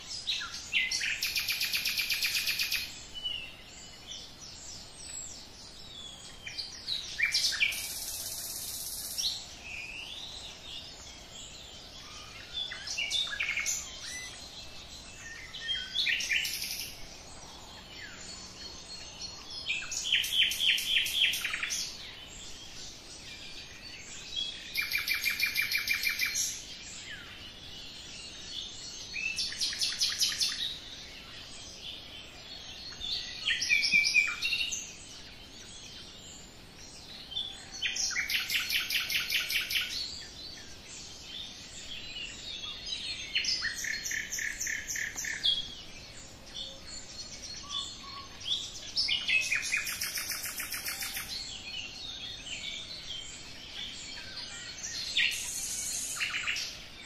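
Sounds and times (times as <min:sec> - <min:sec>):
faint background hiss: 0:00.0 - 0:57.0
songbirds singing: 0:00.0 - 0:57.0.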